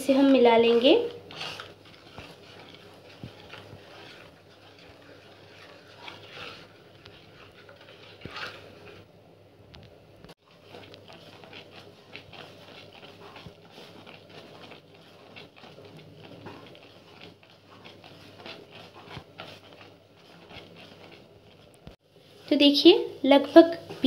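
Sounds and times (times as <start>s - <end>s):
wooden spatula scraping a pan: 0.0s - 9.1s, 10.3s - 24.0s.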